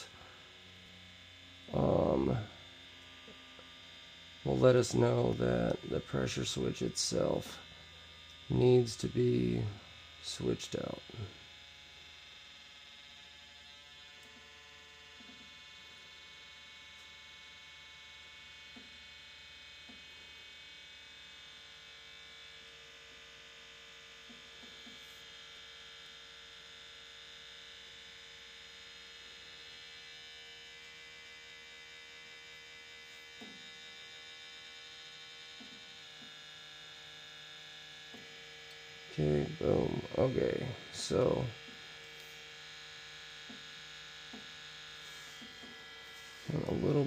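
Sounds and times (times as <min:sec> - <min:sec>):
small pump buzzing: 0:00.0 - 0:47.0.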